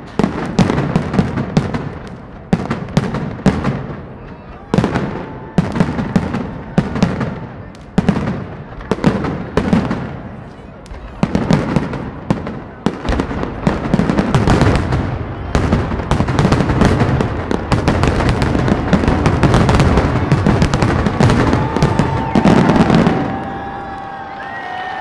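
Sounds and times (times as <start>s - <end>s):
crackling firework stars: 0.0s - 25.0s.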